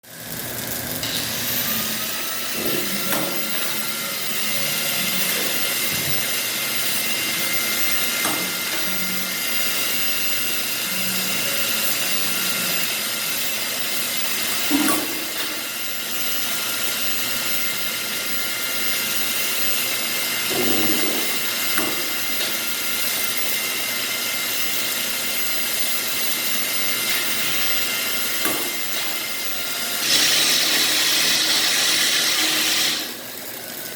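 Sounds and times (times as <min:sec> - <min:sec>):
welding hiss with whine: 0:00.0 - 0:33.9.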